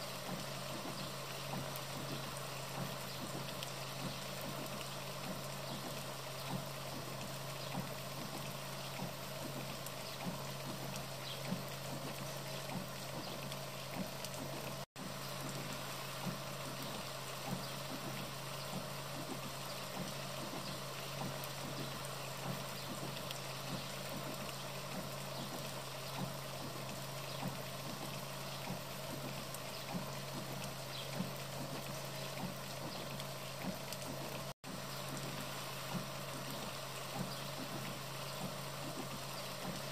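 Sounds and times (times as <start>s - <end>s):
small drips: 0.0s - 39.9s
steady rain: 0.0s - 39.9s.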